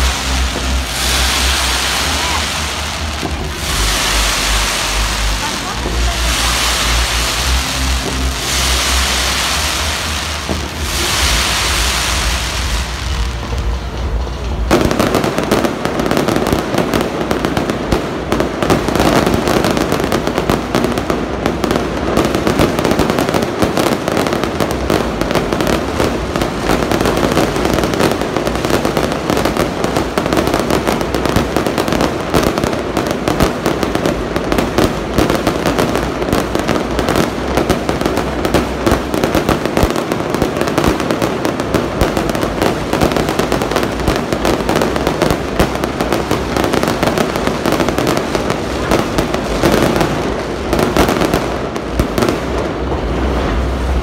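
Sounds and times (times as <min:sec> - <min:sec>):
fireworks bursts and bangs: 0:00.0 - 0:54.0.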